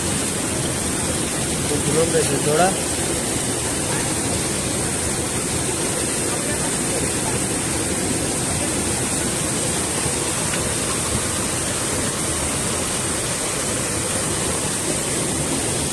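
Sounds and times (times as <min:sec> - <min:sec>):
river water rushing: 0:00.0 - 0:15.9.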